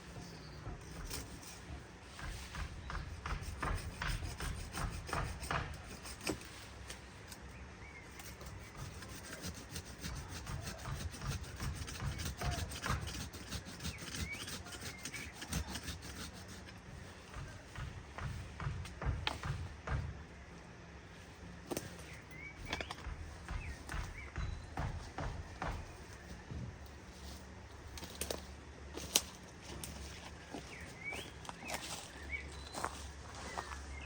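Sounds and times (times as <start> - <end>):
scraping strokes on wood: 0.0 - 20.2, 21.2 - 34.0.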